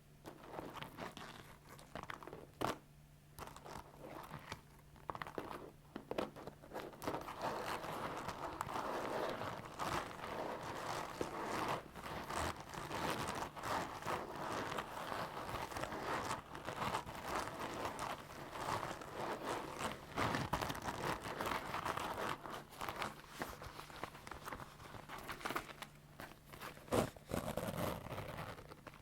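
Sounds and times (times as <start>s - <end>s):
leather creaking and rustling: 3.4s - 29.0s.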